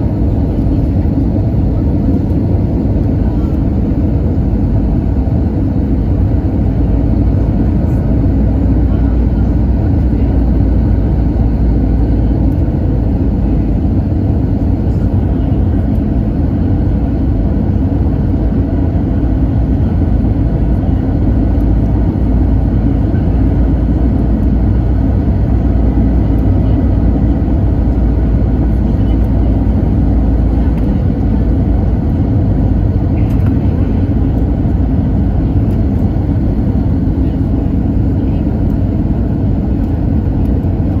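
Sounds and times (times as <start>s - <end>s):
airliner cabin rumble in flight: 0.0s - 41.0s.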